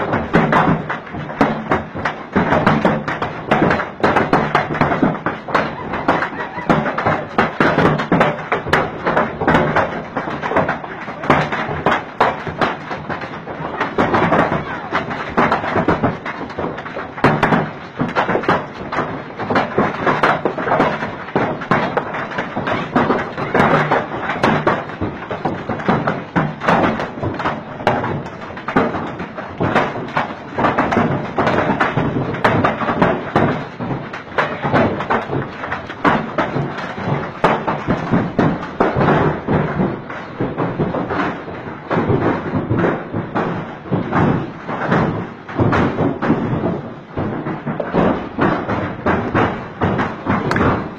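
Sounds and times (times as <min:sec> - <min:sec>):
hailstones hammering down: 0:00.0 - 0:50.9.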